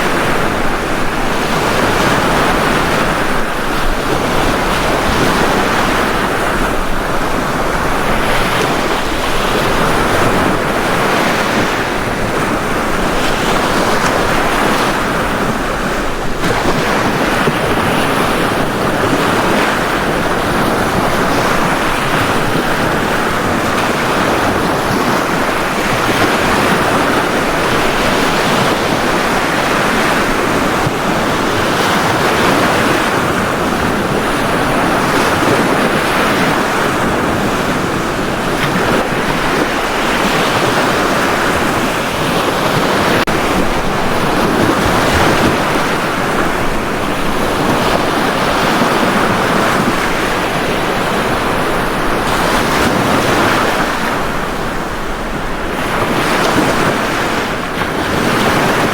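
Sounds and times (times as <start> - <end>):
ocean waves breaking on beach: 0.0 - 58.9.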